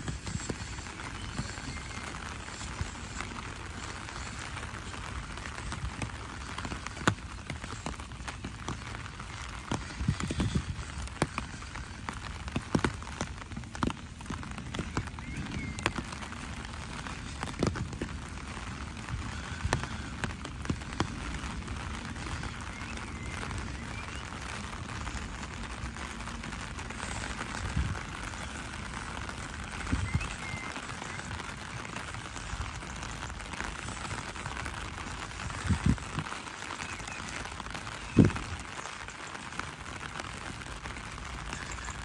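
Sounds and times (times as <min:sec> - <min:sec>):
rain on paving and grass: 0:00.0 - 0:42.0.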